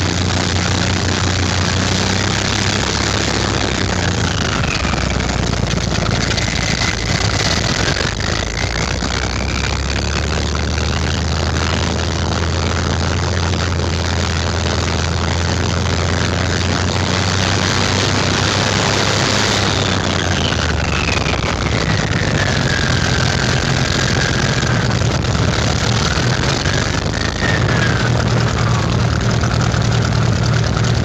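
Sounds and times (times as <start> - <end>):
high whine gliding down: 0.0 - 31.0
piston aircraft engine running: 0.0 - 31.0.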